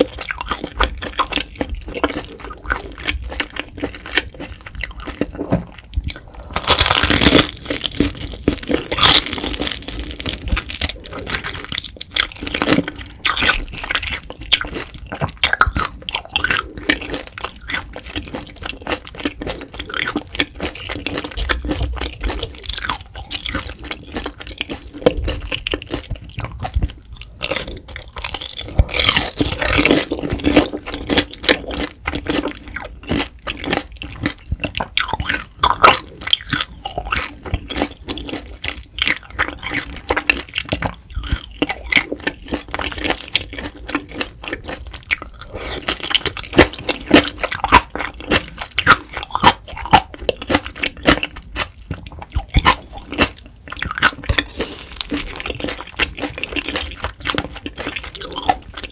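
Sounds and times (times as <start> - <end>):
close-miked chewing: 0.0 - 58.9.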